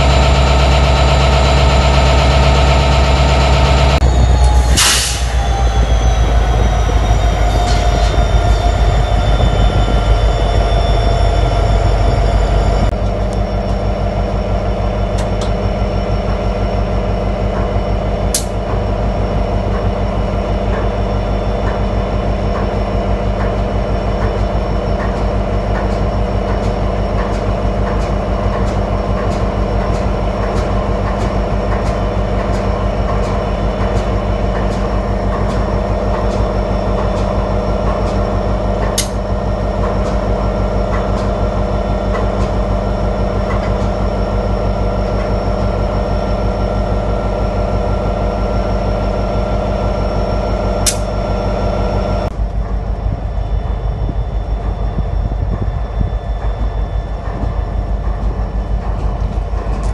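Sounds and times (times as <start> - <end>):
train wheels clicking on rails: 0.0 - 50.2, 50.8 - 51.2, 52.2 - 59.9
train engine drone: 0.0 - 59.9.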